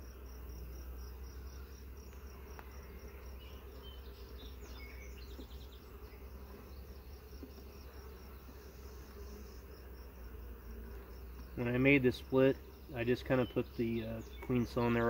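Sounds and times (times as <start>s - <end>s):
high pulsing insect chirp: 0.0s - 15.0s
honeybees buzzing: 0.0s - 15.0s.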